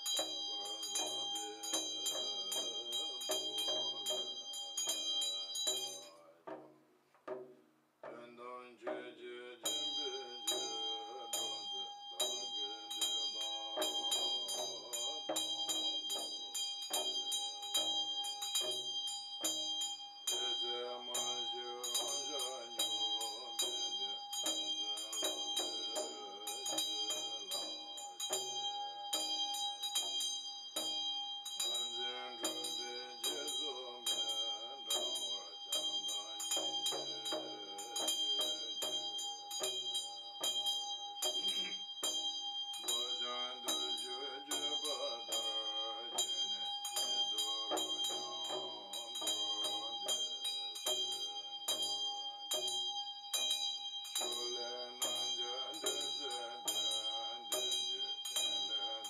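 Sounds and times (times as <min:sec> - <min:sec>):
hand bell ringing: 0:00.0 - 0:06.2, 0:09.6 - 0:59.0
man chanting: 0:00.0 - 0:06.8, 0:08.0 - 0:18.0, 0:20.3 - 0:28.6, 0:31.6 - 0:40.6, 0:41.2 - 0:42.2, 0:42.8 - 0:51.9, 0:54.2 - 0:59.0.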